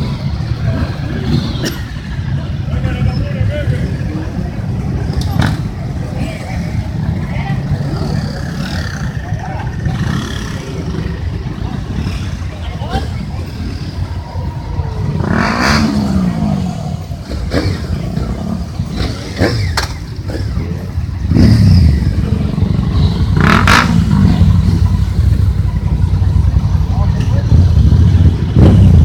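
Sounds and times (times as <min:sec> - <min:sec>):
motorcycles racing past: 0:03.7 - 0:29.0.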